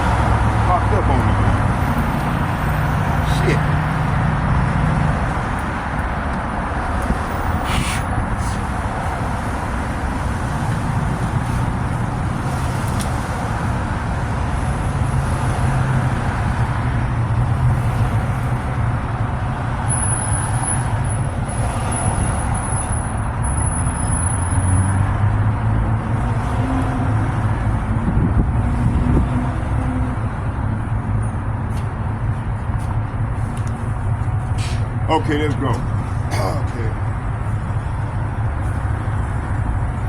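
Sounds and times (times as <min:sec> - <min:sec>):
engine hum: 0:00.0 - 0:40.0
road noise rumble: 0:00.0 - 0:40.0.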